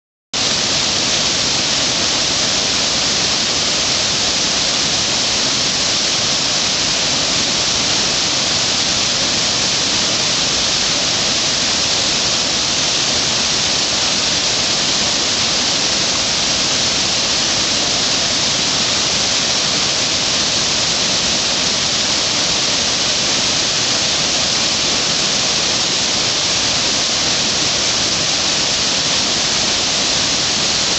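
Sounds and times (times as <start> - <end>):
whitewater rushing: 0.4 - 30.9.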